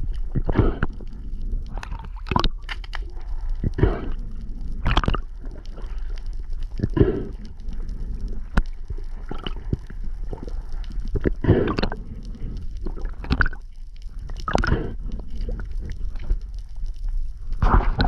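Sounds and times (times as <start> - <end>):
sea water sloshing and gurgling: 0.0 - 18.0
steady low rumble: 0.0 - 18.0.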